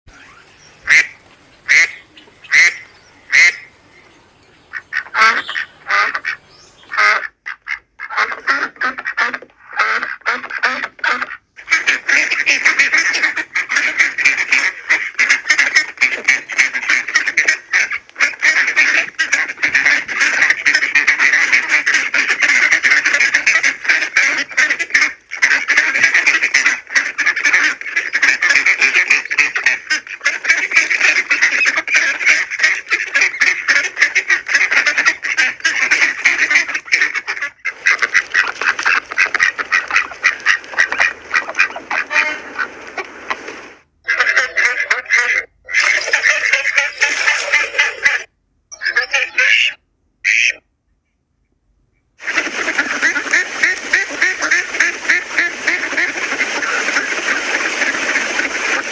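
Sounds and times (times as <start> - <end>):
ducks quacking: 0.1 - 50.6, 52.2 - 58.9.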